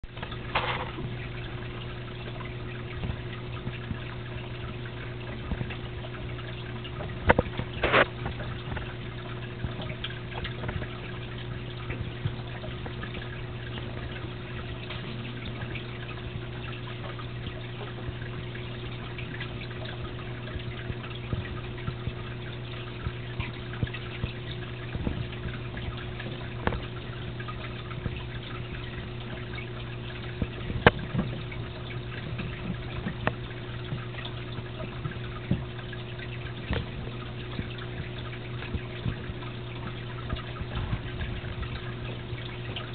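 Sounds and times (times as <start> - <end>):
steady low hum: 0.0 - 42.9
water trickling and dripping: 0.0 - 42.9.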